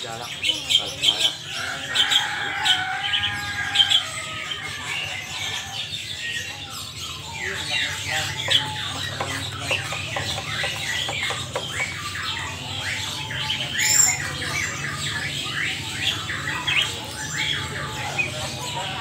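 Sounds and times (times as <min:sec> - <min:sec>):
caged birds chirping and squawking: 0:00.0 - 0:19.0.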